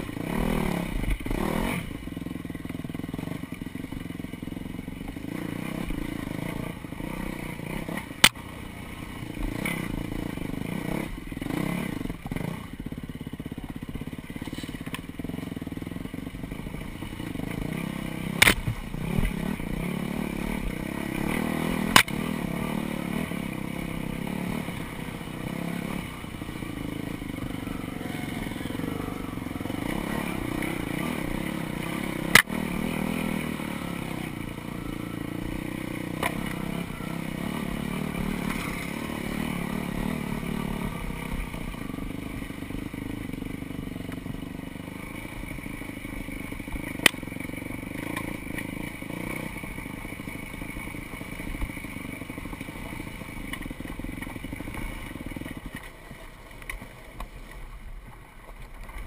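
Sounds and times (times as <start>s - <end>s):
dirt bike engine at low revs: 0.0s - 59.0s.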